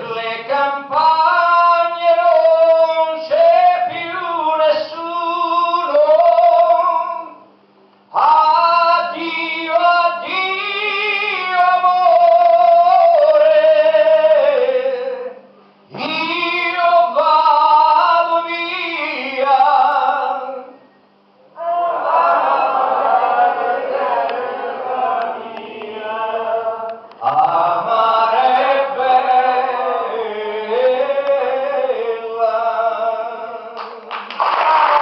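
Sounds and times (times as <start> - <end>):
man singing into a microphone: 0.0 - 7.4, 8.2 - 20.8, 25.9 - 34.1
faint steady hum: 0.0 - 35.0.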